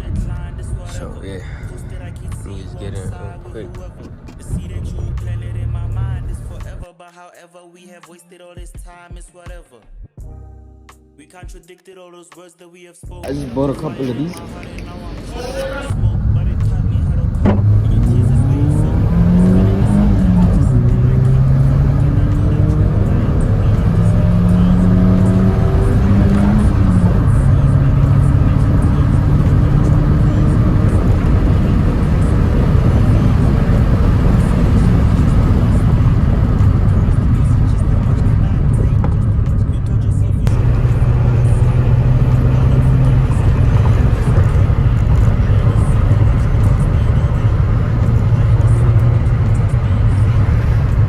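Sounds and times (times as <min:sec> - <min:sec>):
car engine from inside cabin: 0:00.8 - 0:06.8, 0:13.2 - 0:51.0.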